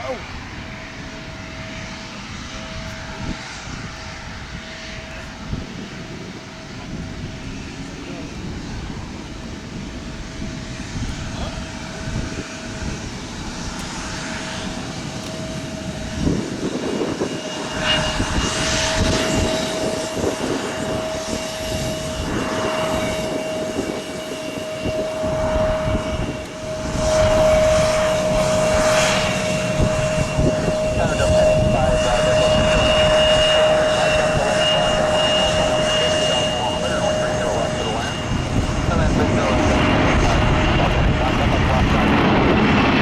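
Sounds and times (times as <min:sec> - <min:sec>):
jet engines whining and rumbling: 0:00.0 - 0:43.0.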